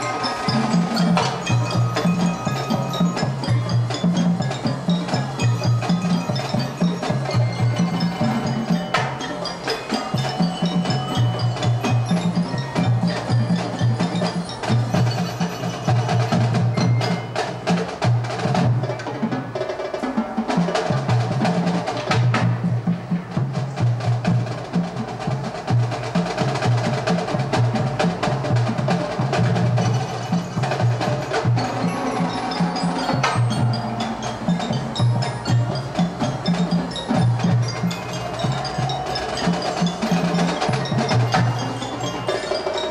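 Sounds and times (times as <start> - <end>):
drums and percussion: 0.0 - 42.9
marching band playing: 0.0 - 42.9.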